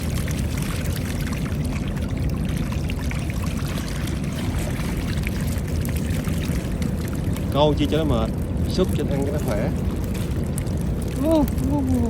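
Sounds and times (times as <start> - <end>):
water dripping: 0.0 - 12.0
water splashing and pouring: 0.0 - 12.0.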